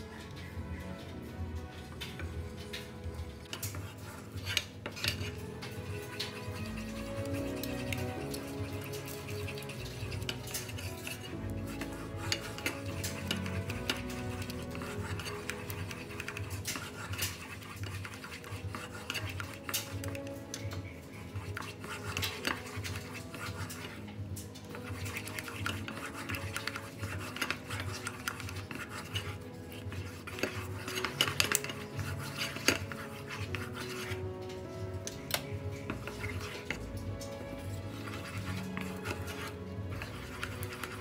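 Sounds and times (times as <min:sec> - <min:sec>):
wooden spoon scraping saucepan: 0:00.0 - 0:41.0.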